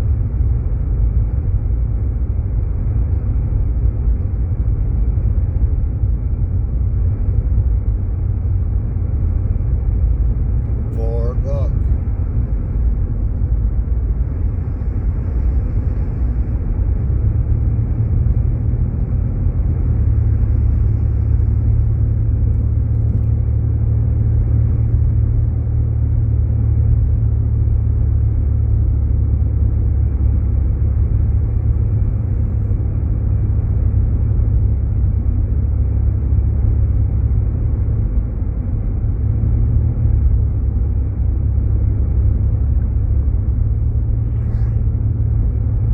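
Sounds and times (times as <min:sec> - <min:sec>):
road and engine rumble in car: 0:00.0 - 0:45.9.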